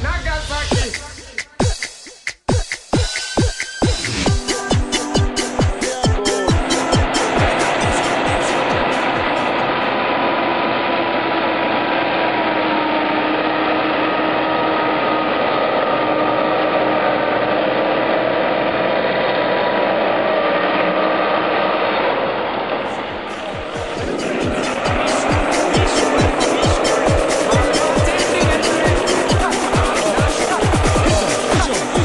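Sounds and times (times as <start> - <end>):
whining tone: 3.8 - 32.0
truck engine running under load: 4.3 - 32.0.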